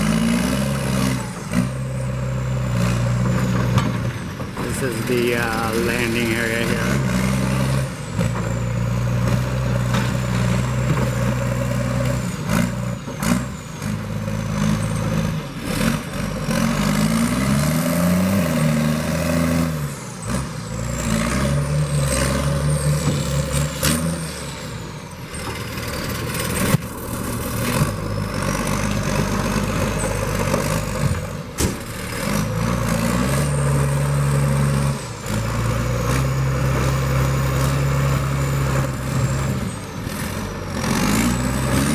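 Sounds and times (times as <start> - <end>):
diesel engine revving: 0.0 - 41.9.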